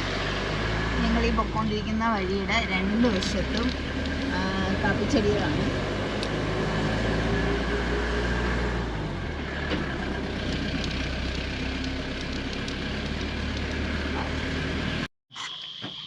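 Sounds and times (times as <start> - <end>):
car engine hum: 0.0 - 15.1
road noise: 0.0 - 15.1.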